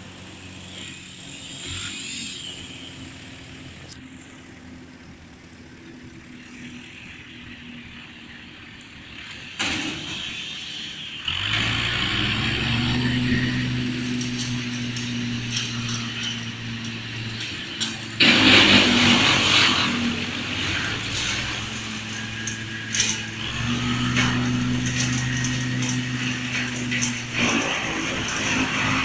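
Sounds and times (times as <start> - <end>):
chainsaw engine running: 0.0 - 9.6, 11.0 - 29.0.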